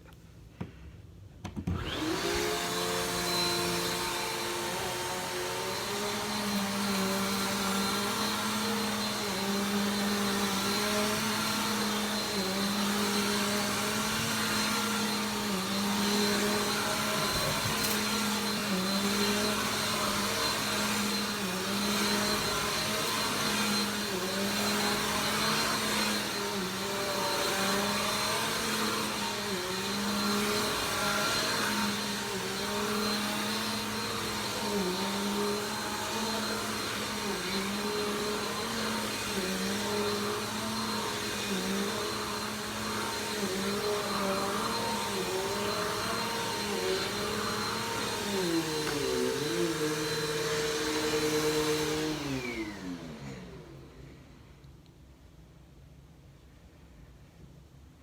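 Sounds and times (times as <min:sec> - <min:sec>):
vacuum cleaner running: 0:01.5 - 0:54.6.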